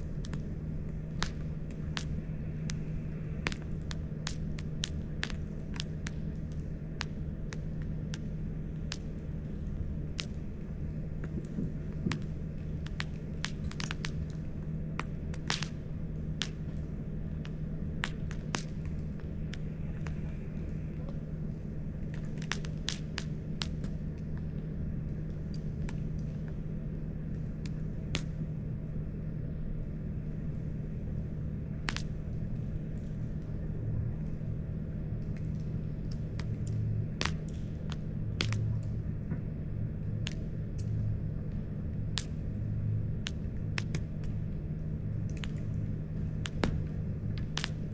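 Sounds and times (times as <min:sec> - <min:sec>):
campfire crackling and popping: 0:00.0 - 0:28.5, 0:30.2 - 0:47.9
low rumble and hum: 0:00.0 - 0:47.9.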